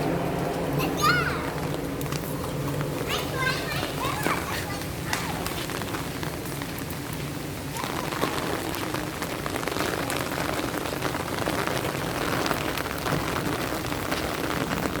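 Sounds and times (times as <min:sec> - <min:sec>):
raindrops ticking close by: 0:00.0 - 0:15.0
steady rain falling: 0:00.0 - 0:15.0.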